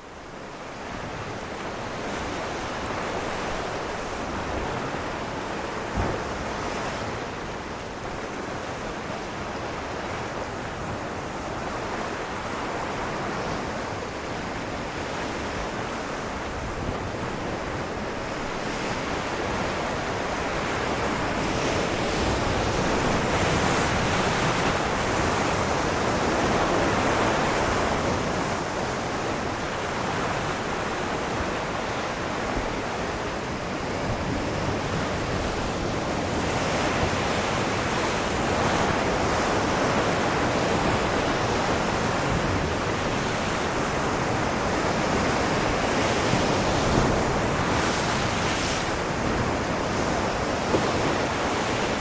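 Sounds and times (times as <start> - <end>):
ocean waves breaking on rocks: 0.7 - 52.0.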